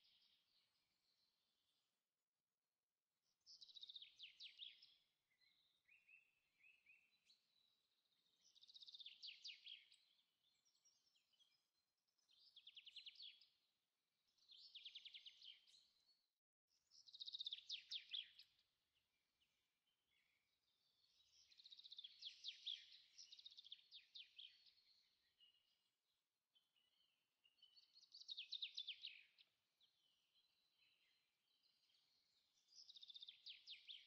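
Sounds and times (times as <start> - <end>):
songbird chirping in high trills: 3.4 - 13.7, 14.3 - 18.6, 19.4 - 26.0, 26.6 - 34.0.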